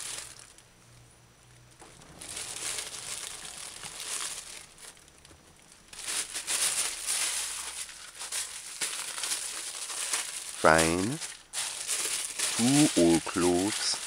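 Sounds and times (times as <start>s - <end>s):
plastic bag crinkling: 0.0s - 0.6s, 1.8s - 14.0s.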